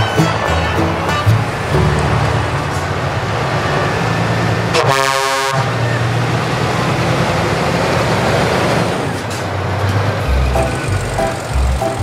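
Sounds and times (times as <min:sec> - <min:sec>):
heavy vehicle engine rumble: 0:00.0 - 0:12.0.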